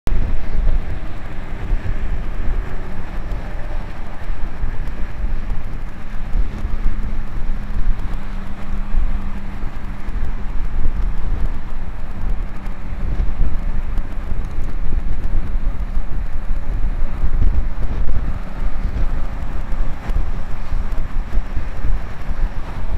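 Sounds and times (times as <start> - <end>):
wind buffeting microphone: 0.1 - 22.9.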